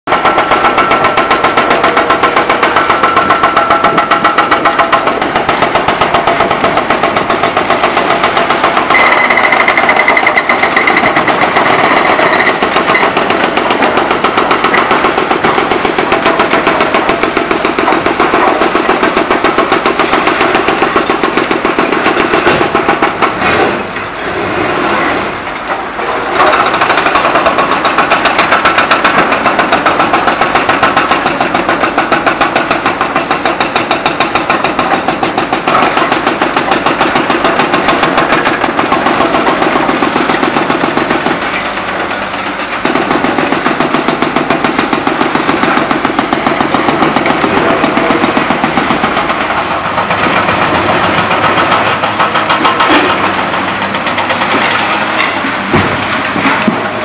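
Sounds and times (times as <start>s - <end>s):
hydraulic breakers hammering concrete: 0.1s - 57.0s.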